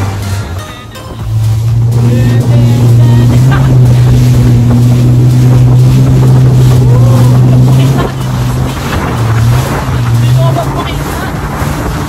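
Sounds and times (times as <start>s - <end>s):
jet ski engine drone: 0.0s - 12.0s
water rushing: 0.0s - 12.0s
wind buffeting microphone: 1.2s - 12.0s.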